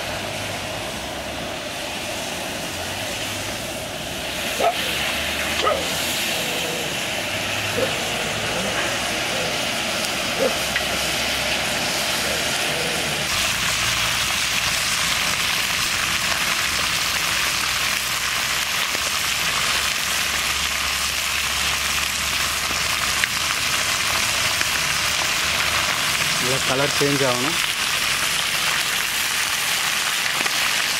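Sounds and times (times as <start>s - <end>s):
chicken sizzling in oil: 0.0s - 30.9s.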